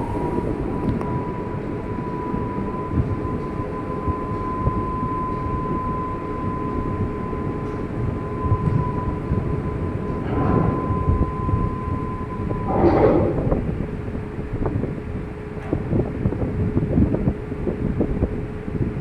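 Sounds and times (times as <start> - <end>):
ship low rumble: 0.0 - 19.0
thin whine: 0.0 - 19.0.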